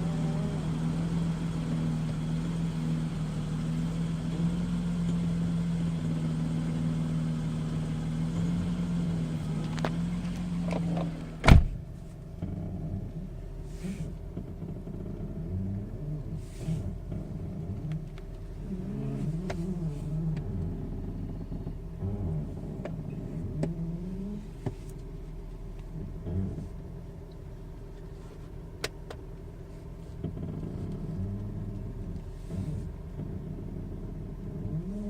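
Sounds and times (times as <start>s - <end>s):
car creaking: 0.0s - 35.0s.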